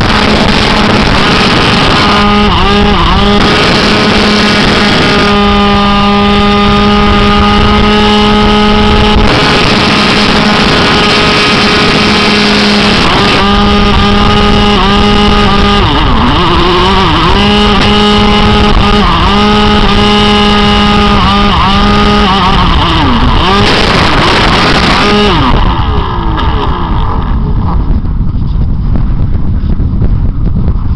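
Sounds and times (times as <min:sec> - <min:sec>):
wind rushing over microphone: 0:00.0 - 0:30.9.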